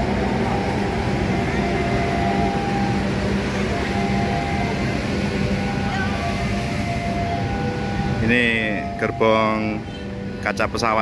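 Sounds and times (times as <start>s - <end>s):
coaches rolling on rails: 0.0s - 11.0s
train engine hum: 0.0s - 11.0s.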